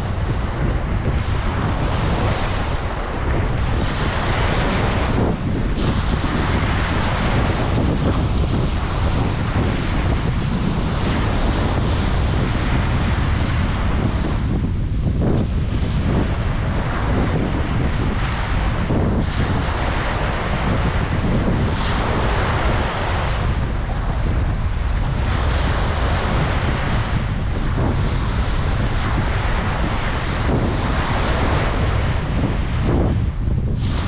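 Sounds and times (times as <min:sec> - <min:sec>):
ocean waves breaking: 0:00.0 - 0:34.0
wind buffeting microphone: 0:00.0 - 0:34.0.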